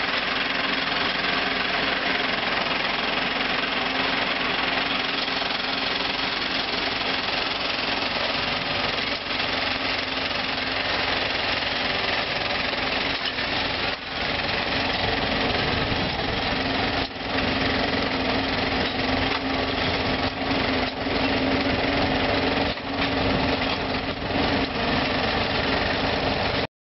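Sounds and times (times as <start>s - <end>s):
engine hum: 0.0s - 26.7s
rapid mechanical clatter: 0.0s - 26.7s.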